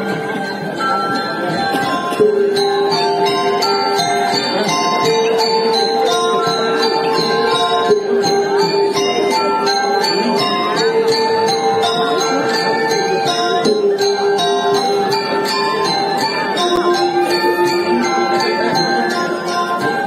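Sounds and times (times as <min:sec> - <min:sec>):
metallophones and gongs: 0:00.0 - 0:20.0.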